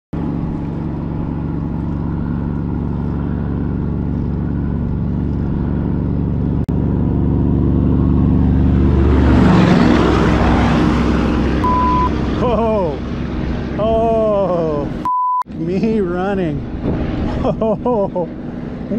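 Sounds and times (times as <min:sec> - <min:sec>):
vehicle engine passing by: 0:00.2 - 0:15.0, 0:15.7 - 0:18.9.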